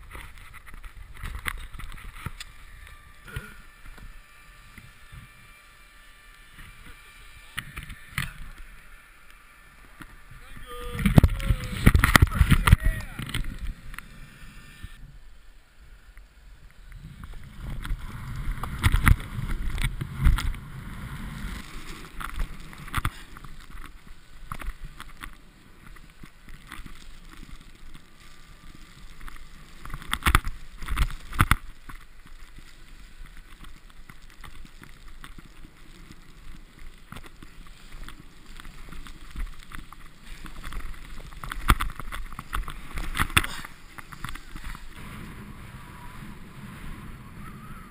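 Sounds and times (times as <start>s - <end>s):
powder snow rustling and crunching: 0.0s - 14.9s, 17.0s - 47.9s.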